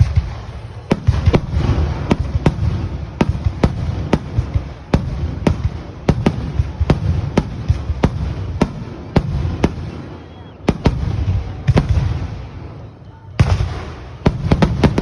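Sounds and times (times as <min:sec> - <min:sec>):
fireworks reports: 0:00.0 - 0:15.0.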